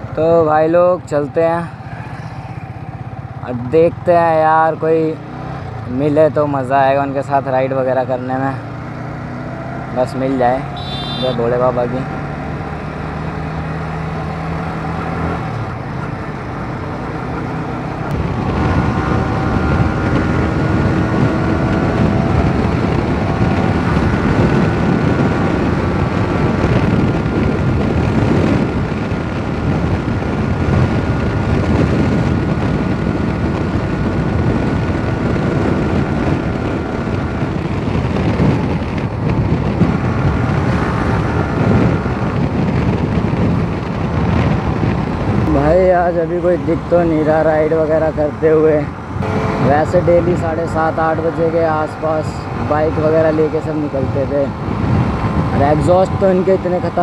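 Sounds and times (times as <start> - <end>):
motorcycle engine running: 0.0 - 6.5, 8.6 - 57.0
wind rush on microphone: 0.0 - 57.0.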